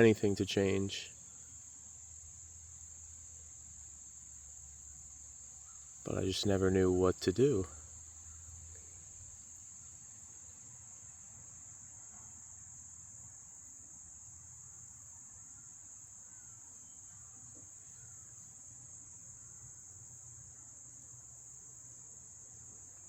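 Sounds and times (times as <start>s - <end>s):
crickets chirping: 0.0s - 23.0s
faint low hum: 0.0s - 23.0s.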